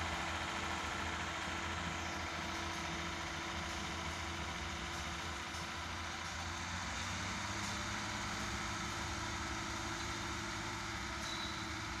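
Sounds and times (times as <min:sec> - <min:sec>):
truck diesel engine humming: 0:00.0 - 0:12.0.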